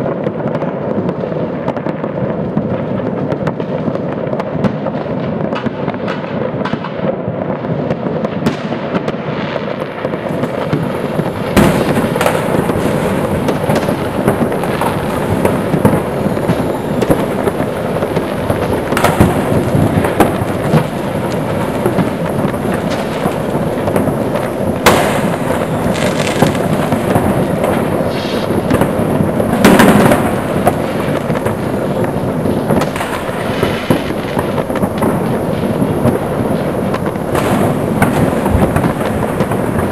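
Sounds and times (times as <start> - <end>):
fireworks crackling and popping: 0.0 - 39.9
loud firework bangs: 0.0 - 39.9.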